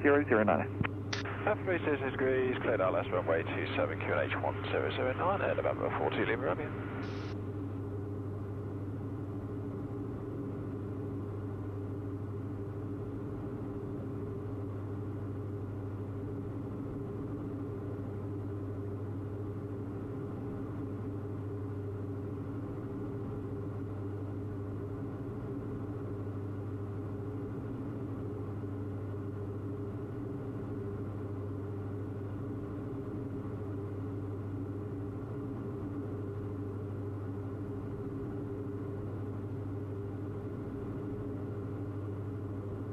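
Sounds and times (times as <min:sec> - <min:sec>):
aircraft engines droning: 0:00.0 - 0:42.9.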